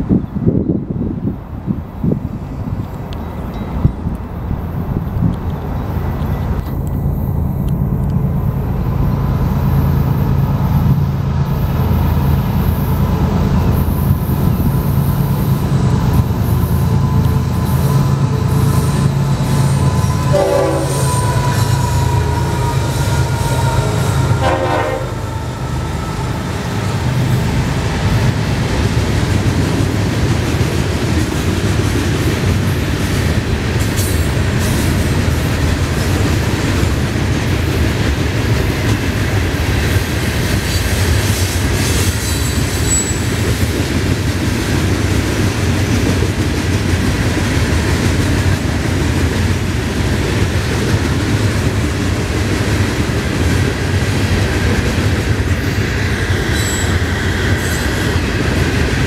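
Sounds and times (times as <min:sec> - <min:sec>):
diesel locomotive drone: 0:00.0 - 0:59.0
freight cars rumbling and clacking: 0:01.6 - 0:59.0.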